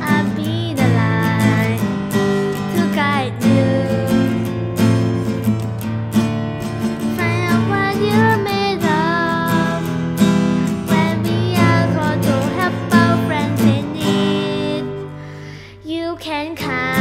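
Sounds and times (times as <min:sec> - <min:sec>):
girl singing: 0:00.0 - 0:05.6, 0:06.9 - 0:17.0
acoustic guitar strumming: 0:00.0 - 0:17.0.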